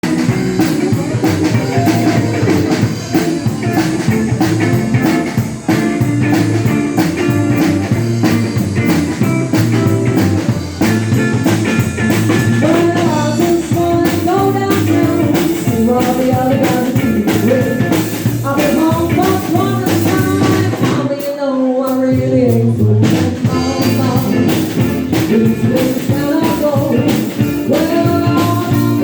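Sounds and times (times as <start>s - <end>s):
blues rock band playing: 0.0s - 29.0s.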